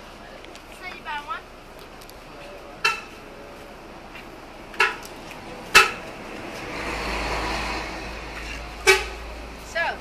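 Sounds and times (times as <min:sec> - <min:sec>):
passing motor vehicle: 0:00.0 - 0:10.0.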